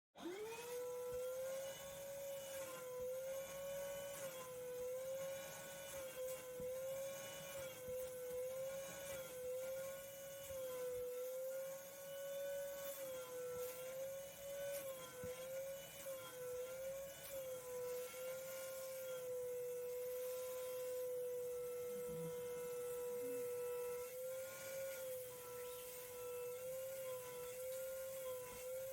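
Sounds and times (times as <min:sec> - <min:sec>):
vacuum cleaner motor whining: 0:00.2 - 0:28.9.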